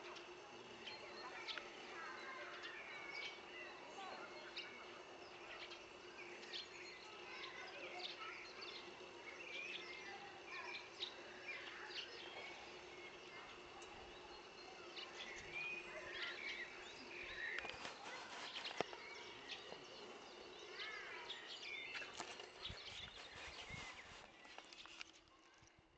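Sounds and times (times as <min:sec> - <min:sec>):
birds chirping: 0:00.0 - 0:25.6.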